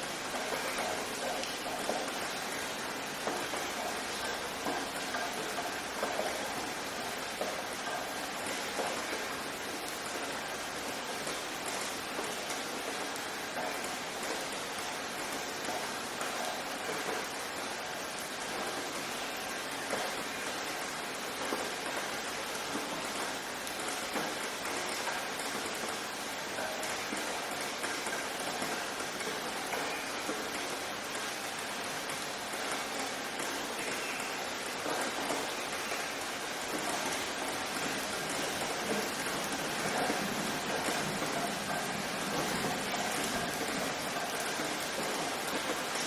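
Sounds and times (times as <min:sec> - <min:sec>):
steady rain falling: 0:00.0 - 0:46.0
raindrops landing close by: 0:00.1 - 0:46.0.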